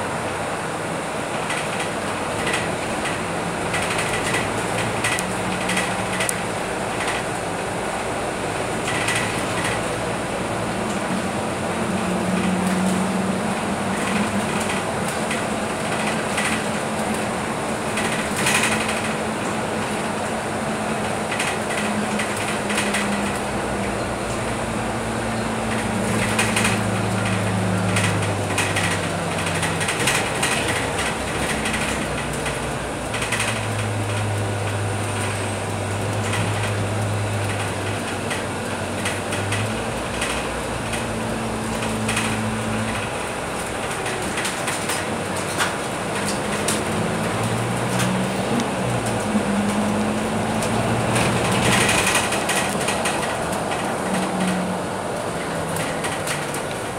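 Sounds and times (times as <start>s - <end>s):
bus engine drone: 0.0s - 56.9s
rattles from bus body: 0.0s - 56.9s
road and tyre noise: 0.0s - 56.9s.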